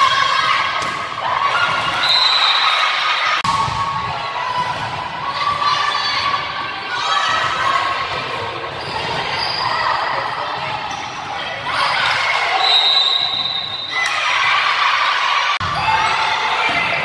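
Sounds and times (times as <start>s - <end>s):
people calling and shouting: 0.0s - 17.0s.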